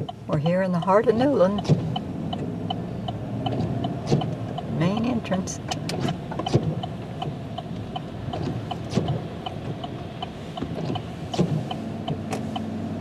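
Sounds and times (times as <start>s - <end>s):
road and engine rumble: 0.0s - 13.0s
turn signal ticking: 0.0s - 13.0s.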